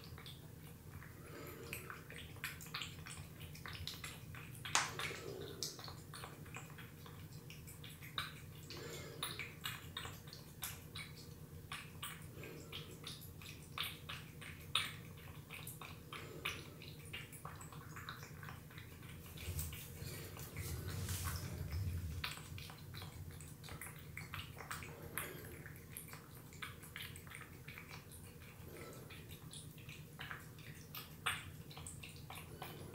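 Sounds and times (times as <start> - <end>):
cat lapping wet food: 0.0 - 32.9.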